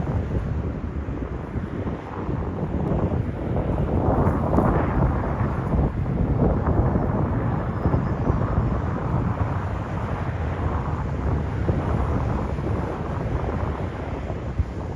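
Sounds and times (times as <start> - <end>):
jet engines roaring past: 0.0 - 14.9.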